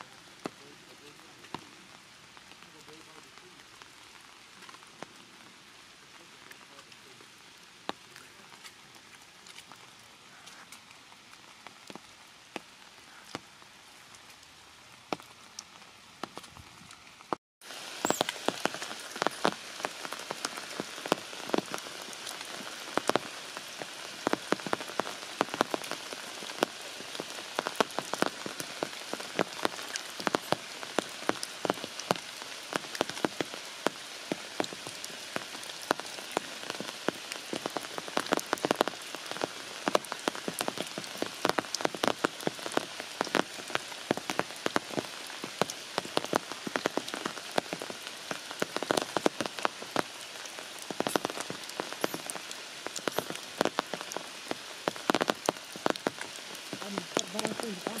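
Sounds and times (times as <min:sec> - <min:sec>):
raindrop impacts: 0:00.0 - 0:05.5, 0:07.8 - 0:58.0
rain hissing: 0:00.0 - 0:58.0.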